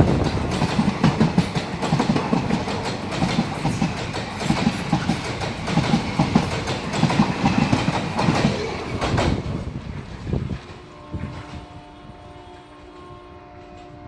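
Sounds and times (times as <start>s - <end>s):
train wheels clattering: 0.0s - 11.7s
rushing noise of train: 0.0s - 14.0s.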